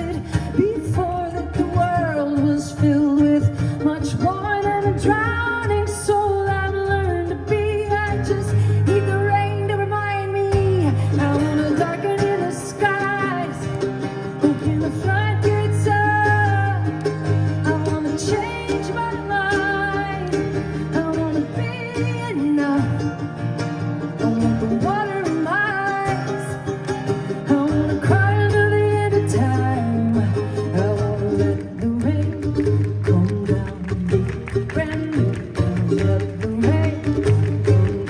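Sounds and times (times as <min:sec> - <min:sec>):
person singing: 0:00.0 - 0:23.2, 0:24.0 - 0:38.0
mandolin and acoustic guitar: 0:00.0 - 0:38.0.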